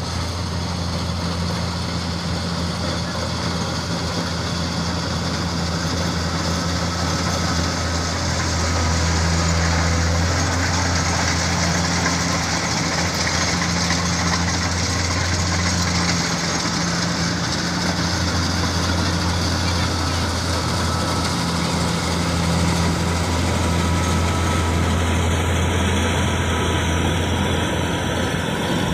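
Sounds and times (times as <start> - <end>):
diesel engine drone: 0.0 - 28.9.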